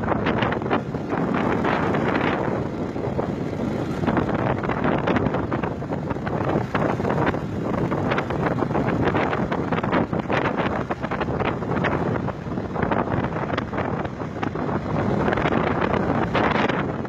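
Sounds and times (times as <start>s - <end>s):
motorbike engine: 0.0s - 17.0s
road noise: 0.0s - 17.0s
wind buffeting microphone: 0.0s - 17.0s.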